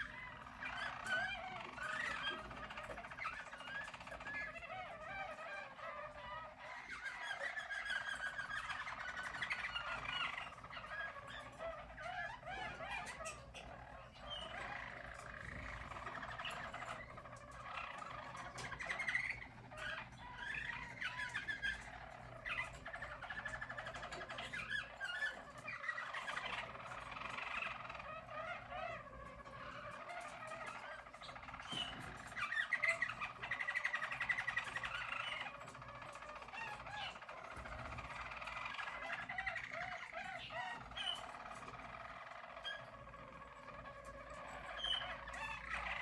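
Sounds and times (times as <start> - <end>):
canaries singing trills: 0.0 - 46.0.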